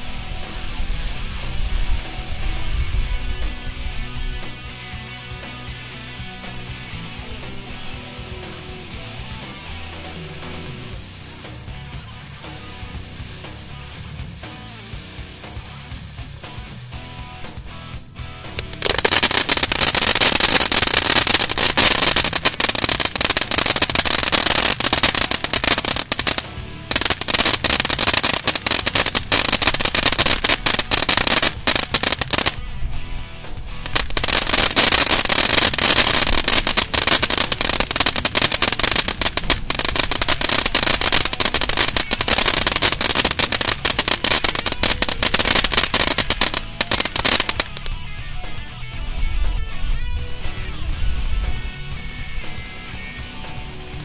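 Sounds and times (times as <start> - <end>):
firework fountain crackling: 0.0 - 4.6, 5.3 - 17.7, 18.6 - 48.0, 50.2 - 54.0
steady hiss: 0.0 - 17.9, 18.5 - 48.1, 49.3 - 54.0.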